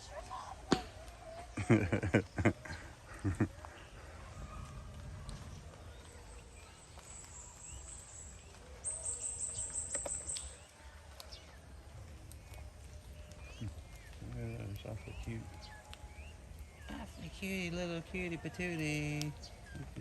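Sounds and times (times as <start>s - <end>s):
faint chirps: 0.0s - 20.0s.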